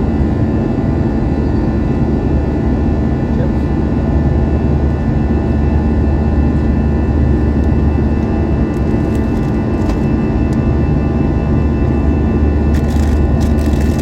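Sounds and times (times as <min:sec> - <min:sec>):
jet engine and airflow roar: 0:00.0 - 0:14.0.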